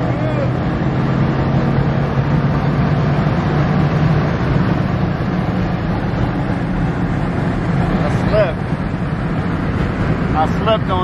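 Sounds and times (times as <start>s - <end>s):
car engine droning: 0.0s - 11.0s
road and wind noise: 0.0s - 11.0s.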